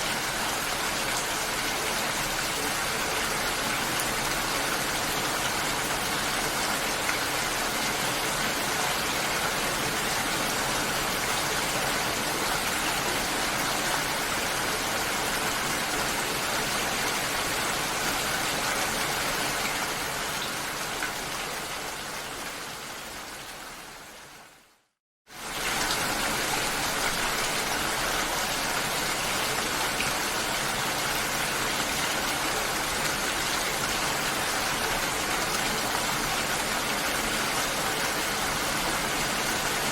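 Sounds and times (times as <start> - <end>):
steady hiss of water: 0.0 - 39.9.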